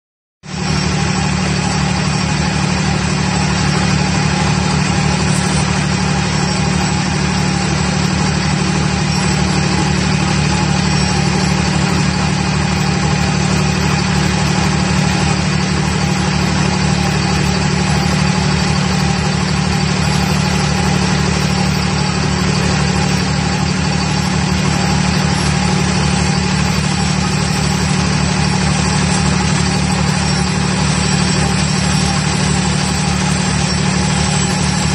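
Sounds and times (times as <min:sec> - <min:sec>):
pile-driving hammer droning: 0:00.5 - 0:34.9.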